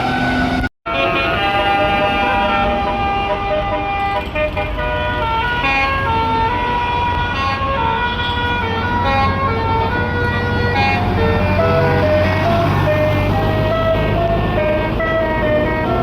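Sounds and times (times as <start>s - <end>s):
bus engine running low: 0.0s - 16.0s
bus horn playing a tune: 0.0s - 16.0s.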